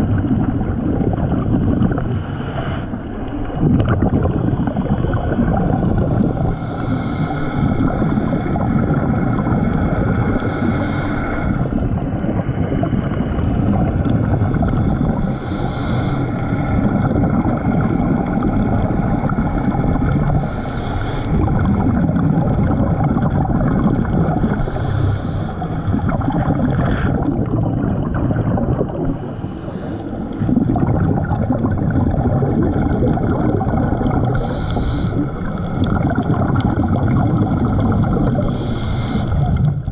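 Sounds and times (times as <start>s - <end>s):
low underwater rumble: 0.0s - 39.9s
diver breathing through regulator: 1.9s - 3.3s, 5.9s - 12.2s, 13.4s - 27.5s, 28.9s - 39.9s.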